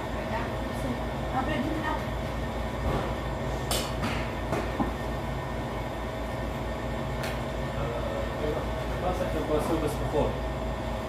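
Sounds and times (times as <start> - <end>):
low mechanical rumble with throb: 0.0 - 11.0.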